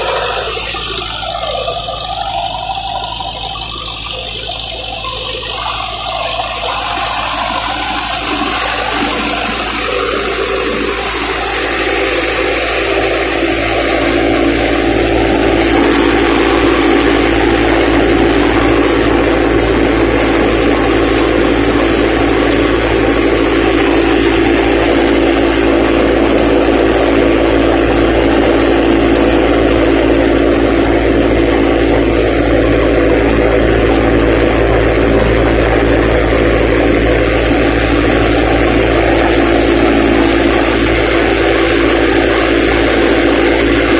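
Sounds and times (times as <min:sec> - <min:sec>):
harvester engine droning: 0:00.0 - 0:43.9.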